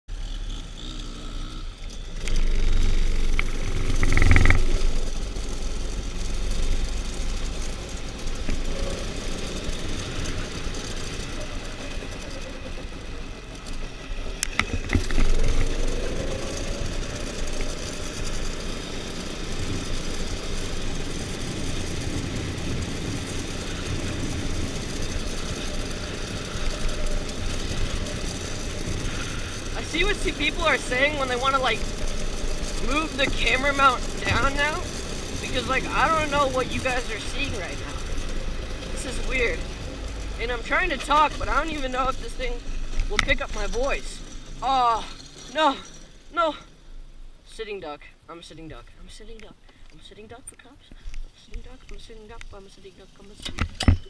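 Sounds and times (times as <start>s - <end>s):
dirt bike engine revving: 0.1s - 47.6s.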